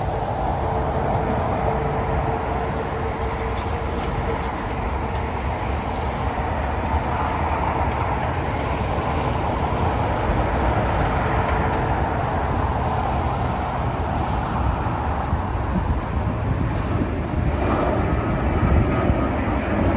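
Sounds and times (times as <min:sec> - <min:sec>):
jet engines roaring: 0:00.0 - 0:19.9.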